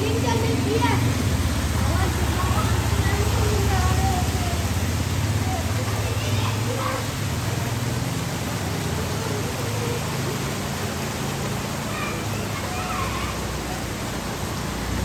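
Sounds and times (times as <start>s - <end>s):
heavy rain on flooded street: 0.0s - 15.0s.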